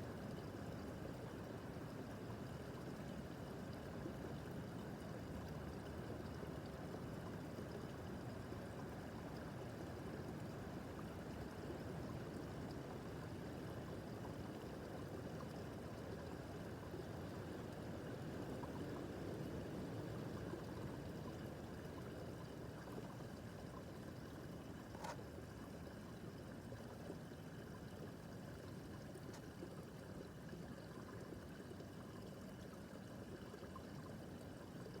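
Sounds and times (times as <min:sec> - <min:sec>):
brook babbling over stones: 0:00.0 - 0:35.0.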